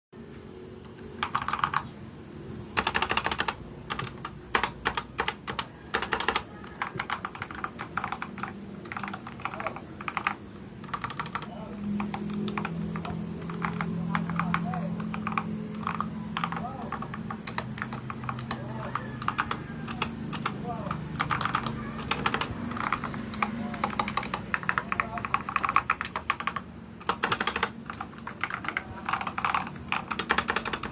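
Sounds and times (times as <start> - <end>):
mechanical keyboard key clacks: 2.8 - 30.9.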